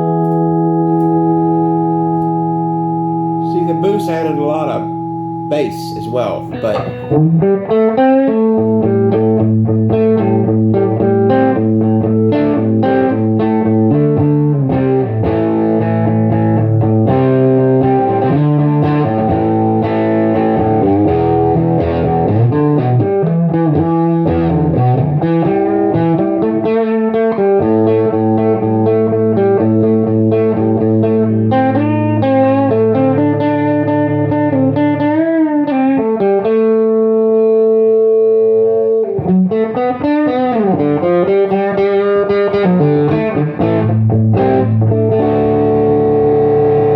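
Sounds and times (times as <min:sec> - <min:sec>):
overdriven electric guitar: 0:00.0 - 0:46.9.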